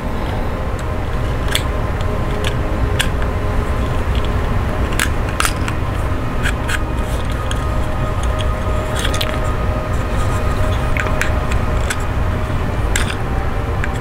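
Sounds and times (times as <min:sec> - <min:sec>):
plastic parts clicking and scraping: 0:00.0 - 0:14.0
steady low hum: 0:00.0 - 0:14.0.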